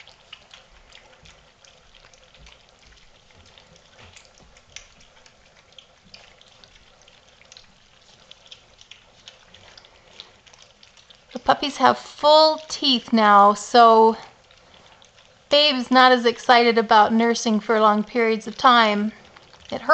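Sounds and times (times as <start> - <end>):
puppies lapping and chewing: 0.0 - 19.9.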